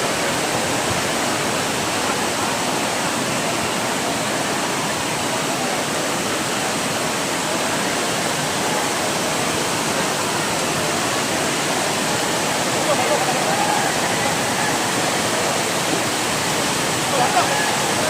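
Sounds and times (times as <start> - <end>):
heavy rain falling: 0.0 - 18.0
running rainwater: 0.0 - 18.0.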